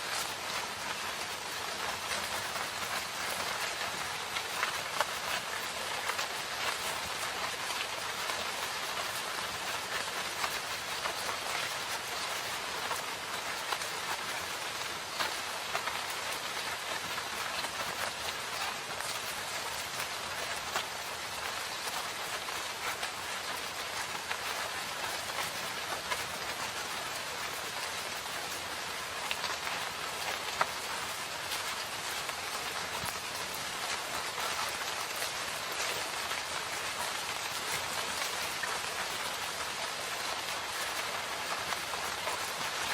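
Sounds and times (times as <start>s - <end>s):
raindrops ticking on surfaces: 0.0s - 42.9s
steady rain hiss: 0.0s - 42.9s.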